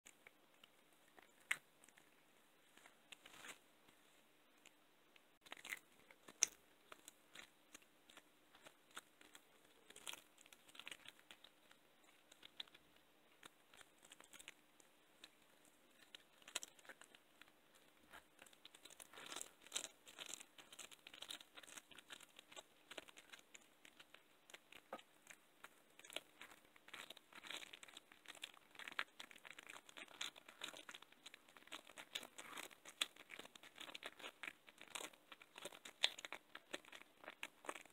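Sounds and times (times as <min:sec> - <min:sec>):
cat chewing and licking: 0:05.4 - 0:37.9.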